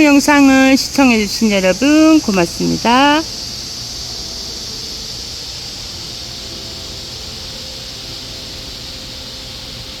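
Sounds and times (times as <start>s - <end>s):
insects chorus: 0.0s - 10.0s.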